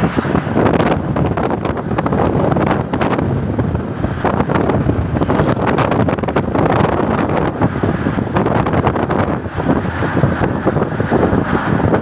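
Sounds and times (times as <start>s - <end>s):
road and engine rumble: 0.0s - 12.0s
wind buffeting microphone: 0.0s - 12.0s.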